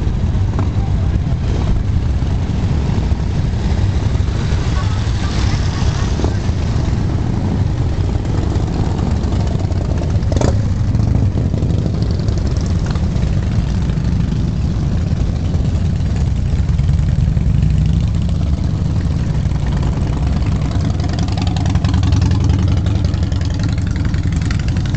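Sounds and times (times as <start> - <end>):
motorcycles riding past: 0.0 - 24.9.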